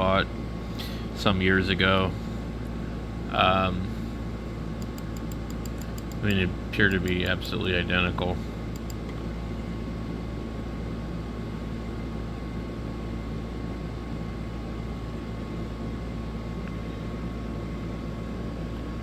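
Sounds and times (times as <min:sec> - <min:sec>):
fan hum and hiss: 0:00.0 - 0:19.0.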